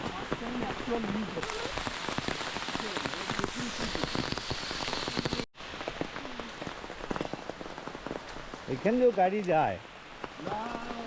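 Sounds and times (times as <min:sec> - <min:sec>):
rain on leaves: 0:00.0 - 0:11.0
raindrops striking close by: 0:00.0 - 0:11.0.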